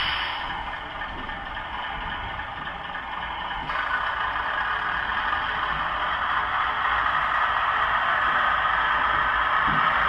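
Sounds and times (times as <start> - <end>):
diesel engine sound from small speaker: 0.0 - 10.0.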